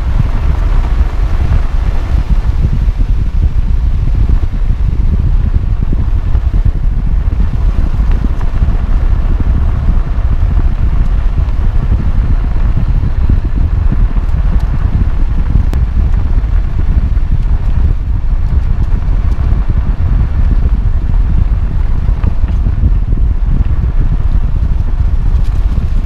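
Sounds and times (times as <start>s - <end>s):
tyres rumbling on road: 0.0s - 26.0s
wind buffeting microphone: 0.0s - 26.0s.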